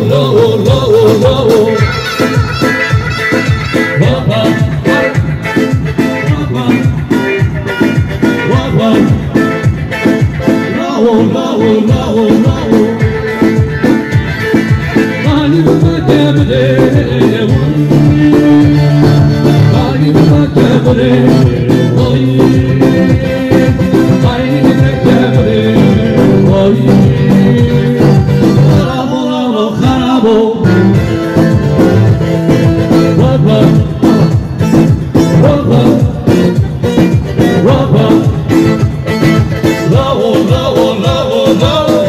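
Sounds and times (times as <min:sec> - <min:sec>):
live band dance music: 0:00.0 - 0:42.0
person singing into microphone: 0:00.0 - 0:42.0.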